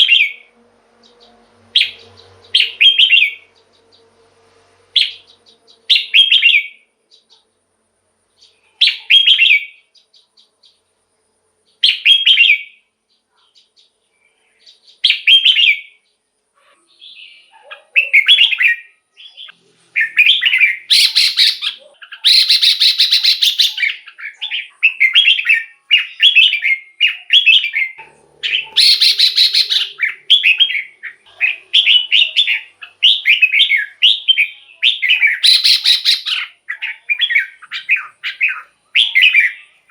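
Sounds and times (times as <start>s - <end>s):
bulbul singing: 0.0s - 7.4s, 8.4s - 10.9s, 11.6s - 16.2s, 16.8s - 39.9s.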